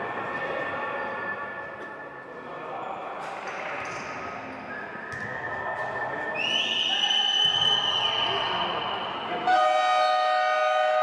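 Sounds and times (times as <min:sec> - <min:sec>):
crowd chatter echoing in a hall: 0:00.0 - 0:11.0.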